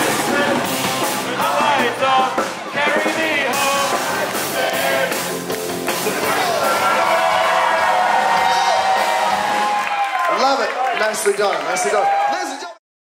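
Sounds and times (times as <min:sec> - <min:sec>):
rock and roll band playing: 0:00.0 - 0:10.6.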